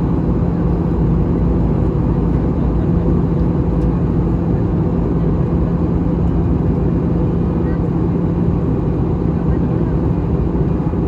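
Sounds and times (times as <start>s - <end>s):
aircraft engine and airflow drone: 0.0s - 11.0s.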